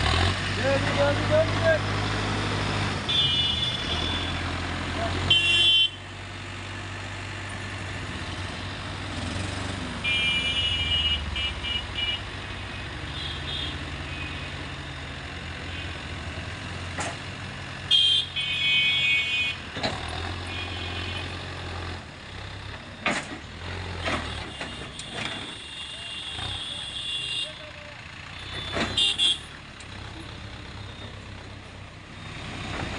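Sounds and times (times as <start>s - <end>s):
diesel engines running: 0.0s - 32.9s.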